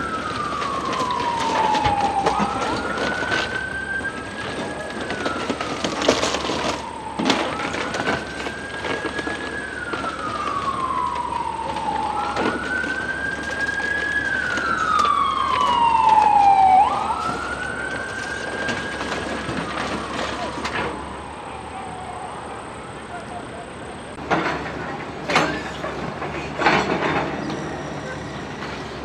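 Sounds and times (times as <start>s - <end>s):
emergency siren wailing: 0.0s - 25.9s.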